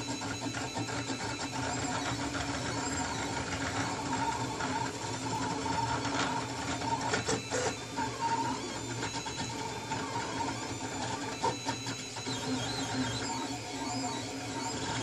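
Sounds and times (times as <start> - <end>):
printer stepper motors whining: 0.0 - 15.0.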